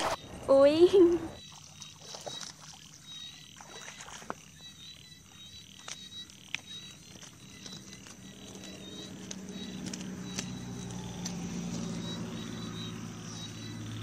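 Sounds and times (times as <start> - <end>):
frogs and insects trilling: 0.1 - 14.0.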